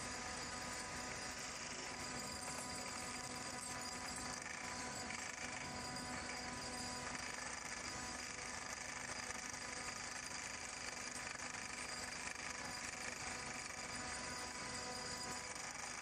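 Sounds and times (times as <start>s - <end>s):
vibratory pile hammer running: 0.0s - 16.0s.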